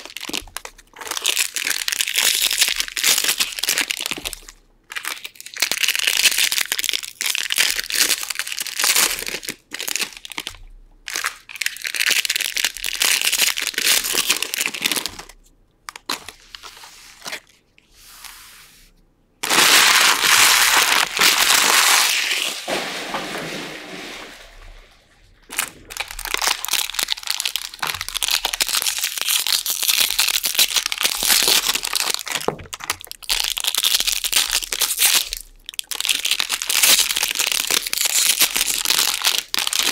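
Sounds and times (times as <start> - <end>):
foil wrappers crinkling and tearing: 0.0 - 17.5, 19.4 - 22.8, 25.4 - 39.9.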